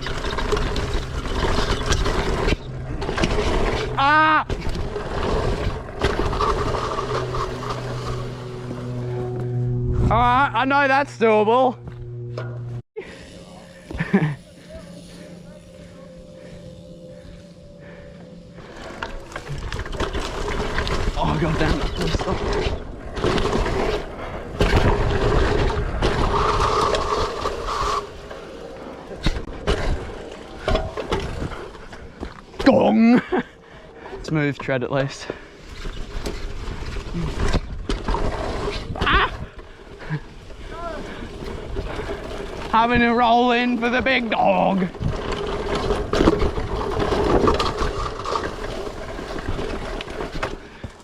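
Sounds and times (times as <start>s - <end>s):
bike tyres rolling on dirt: 0.0s - 9.6s, 13.0s - 51.0s.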